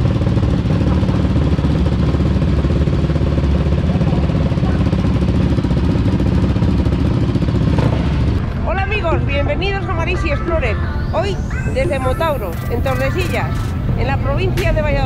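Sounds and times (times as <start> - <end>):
quad bike engine idling: 0.0 - 15.0.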